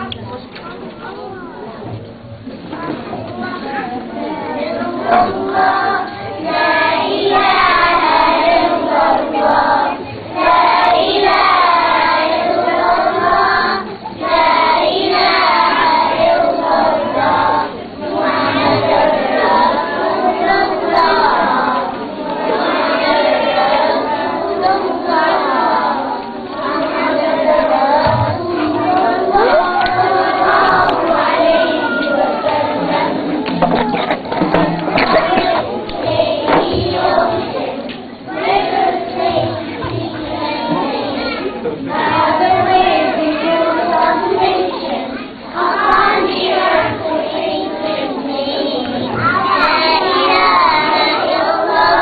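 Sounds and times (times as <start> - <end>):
children singing: 2.8 - 52.0.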